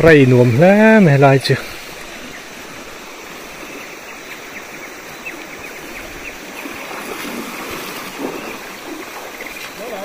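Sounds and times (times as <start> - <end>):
river rushing over gravel: 0.0 - 10.0.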